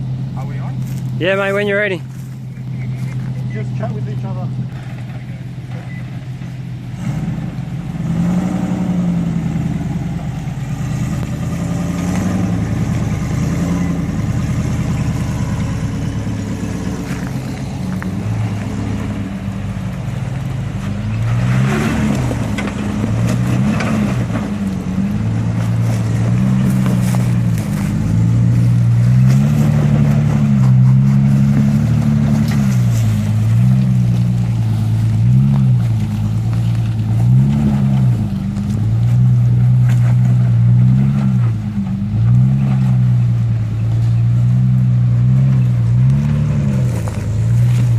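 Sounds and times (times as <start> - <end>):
engine revving: 2.6 - 47.9.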